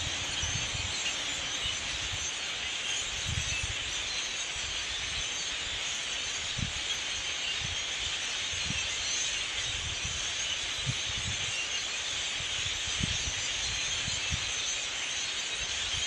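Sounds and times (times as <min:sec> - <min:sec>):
flock of blackbirds chattering: 0:00.0 - 0:16.0.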